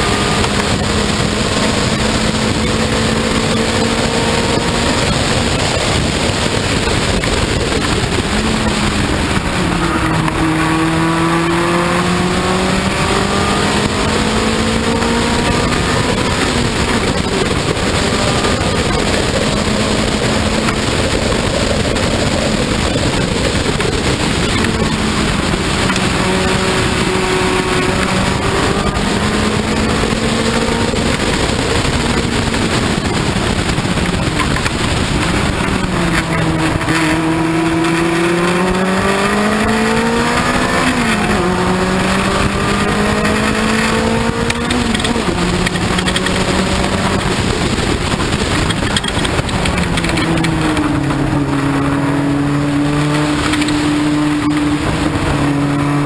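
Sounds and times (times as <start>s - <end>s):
heavy wind and road noise: 0.0s - 56.0s
race car engine at speed: 0.0s - 56.0s.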